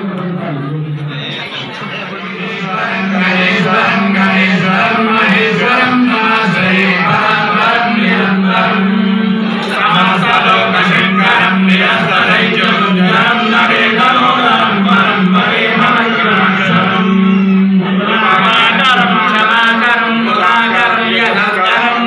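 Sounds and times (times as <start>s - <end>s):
men chanting mantras: 0.0s - 22.0s.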